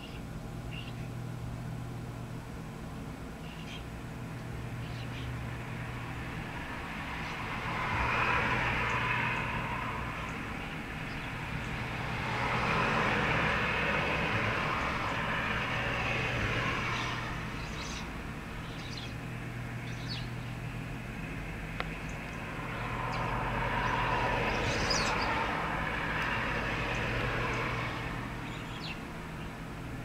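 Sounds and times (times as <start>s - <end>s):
steady low hum: 0.0s - 30.0s
passing road traffic: 3.6s - 30.0s.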